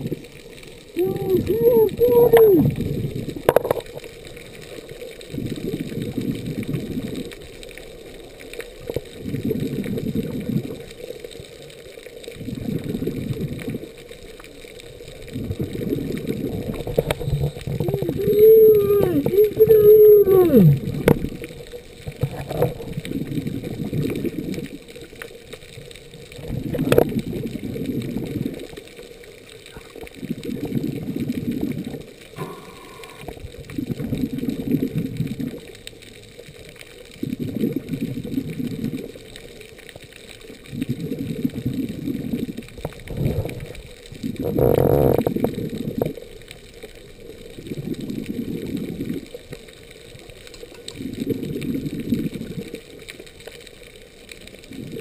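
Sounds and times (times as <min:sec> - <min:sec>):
rush of exhaled bubbles: 0:00.0 - 0:55.0.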